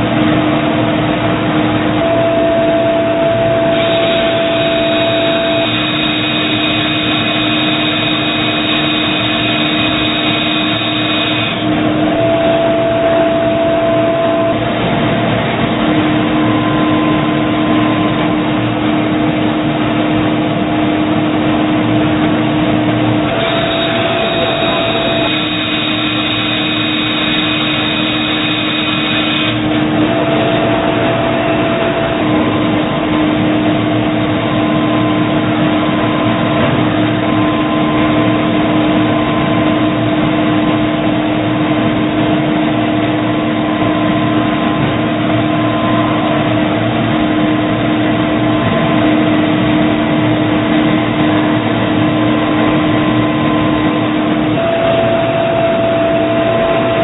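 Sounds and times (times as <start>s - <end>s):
machine hum: 0.0s - 57.0s
machine whining tones: 0.0s - 57.0s.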